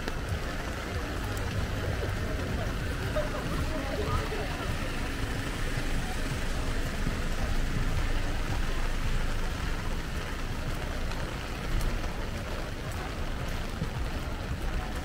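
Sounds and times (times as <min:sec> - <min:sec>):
heavy rain falling: 0:00.0 - 0:15.0
low rumble of street traffic: 0:00.0 - 0:15.0
raindrops ticking close by: 0:00.0 - 0:15.0.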